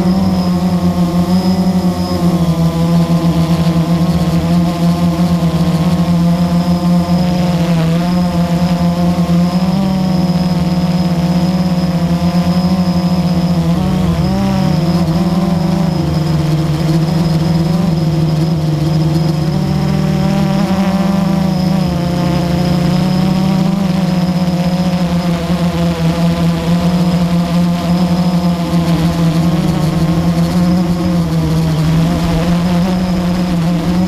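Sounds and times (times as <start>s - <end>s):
quadcopter propellers buzzing: 0.0s - 34.0s.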